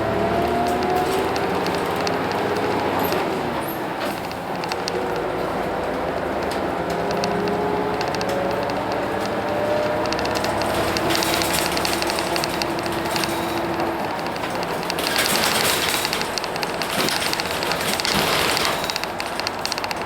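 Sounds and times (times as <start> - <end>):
bus diesel engine clatter: 0.0 - 20.0.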